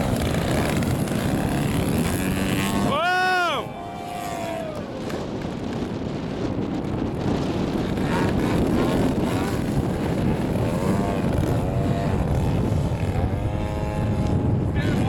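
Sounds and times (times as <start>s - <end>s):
model airplane engine: 0.0s - 15.0s
wind on microphone: 0.0s - 15.0s.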